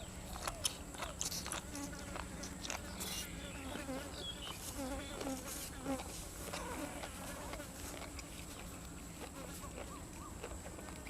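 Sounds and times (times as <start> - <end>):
wet chewing and crunching: 0.0 - 3.3, 5.2 - 11.0.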